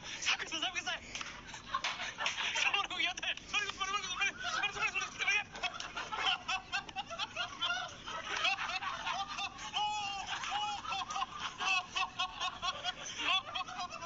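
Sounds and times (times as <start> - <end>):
men laughing and shrieking: 0.3 - 14.0.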